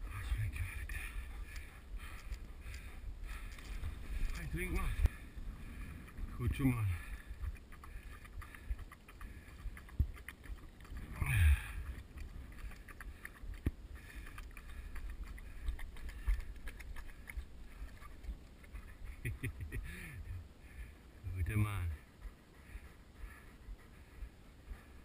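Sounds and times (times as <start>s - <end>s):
dog panting: 0.0s - 25.0s
low rumbling microphone noise: 0.0s - 25.0s.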